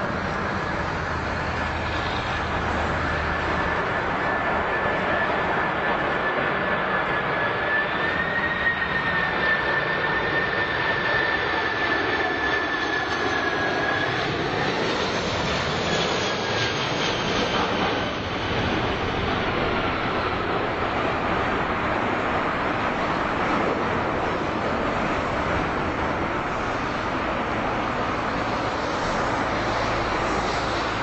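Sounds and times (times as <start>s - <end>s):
jet engines roaring with whine: 0.0s - 31.0s.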